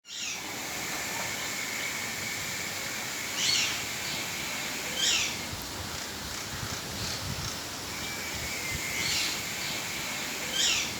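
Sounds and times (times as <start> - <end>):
steady outdoor hiss: 0.0 - 10.9.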